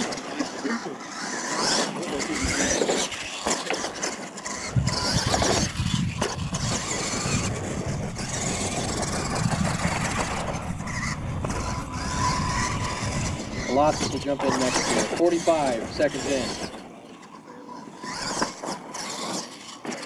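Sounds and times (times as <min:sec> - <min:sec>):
toy truck motor whining: 0:00.0 - 0:20.0
tyres running over dirt: 0:00.0 - 0:20.0.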